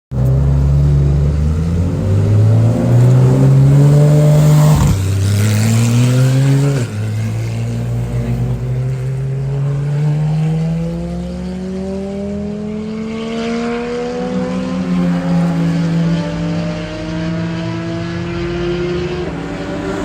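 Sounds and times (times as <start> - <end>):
car engine accelerating hard: 0.1 - 20.0.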